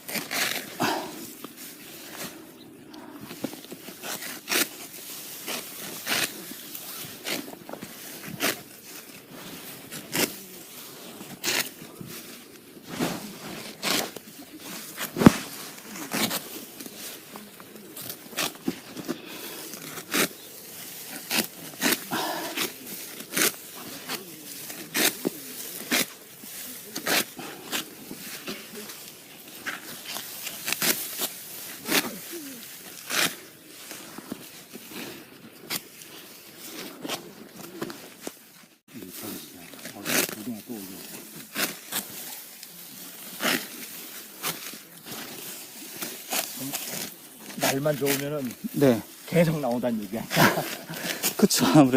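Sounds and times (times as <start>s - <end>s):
sickle cutting rice stalks: 0.0s - 51.9s.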